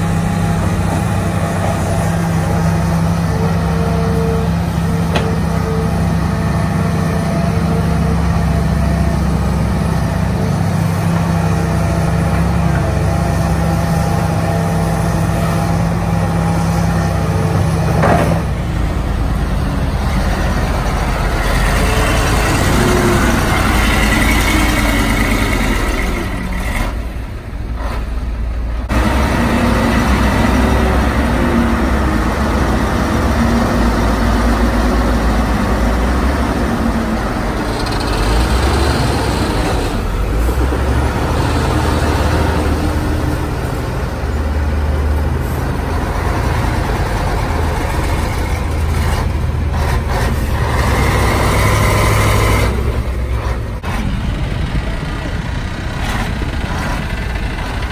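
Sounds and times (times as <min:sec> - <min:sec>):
heavy diesel engines under load: 0:00.0 - 0:57.9.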